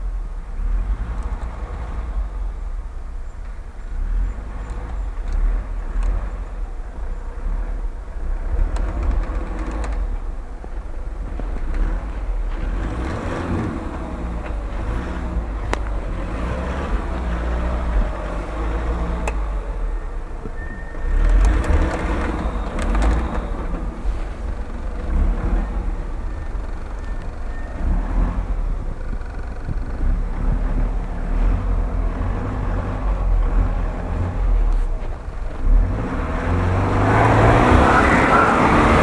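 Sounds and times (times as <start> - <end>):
engine labouring through snow: 0.0 - 39.0.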